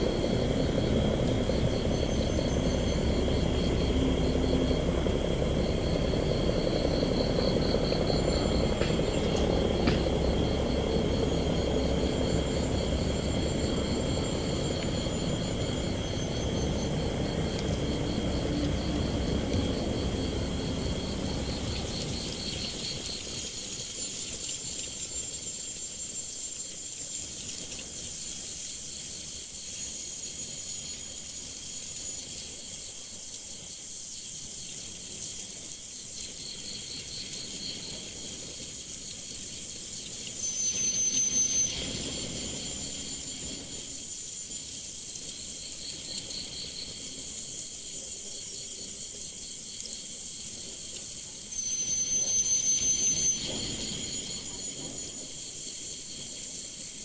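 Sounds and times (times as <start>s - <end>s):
high-pitched hiss: 0.0s - 57.0s
insects trilling: 0.0s - 57.0s.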